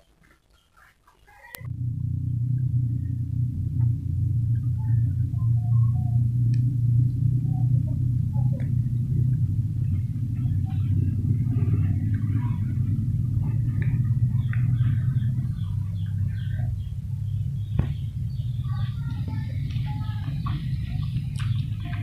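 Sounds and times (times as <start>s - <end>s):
steady low rumble: 1.5s - 22.0s.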